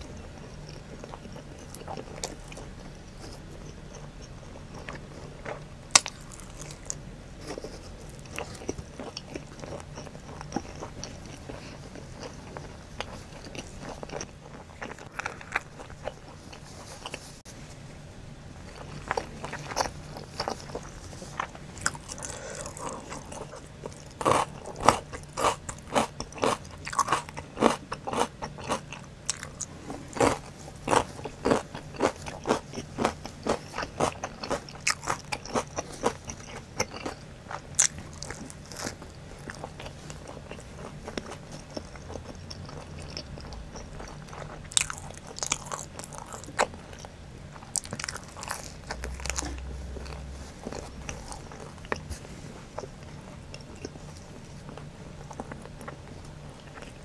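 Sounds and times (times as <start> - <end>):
crunchy chewing: 0.0 - 17.4, 18.6 - 57.0.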